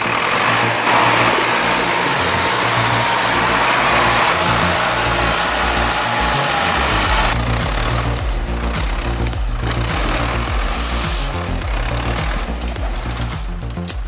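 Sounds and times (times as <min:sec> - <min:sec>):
heavy machinery engine whining: 0:00.0 - 0:13.4
background music with bass: 0:00.0 - 0:14.0.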